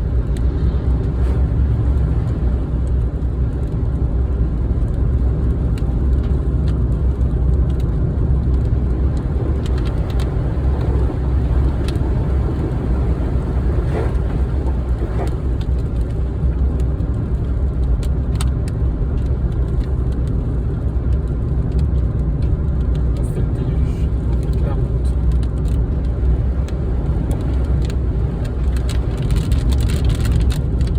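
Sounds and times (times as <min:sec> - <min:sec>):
car road and engine drone: 0:00.0 - 0:30.9.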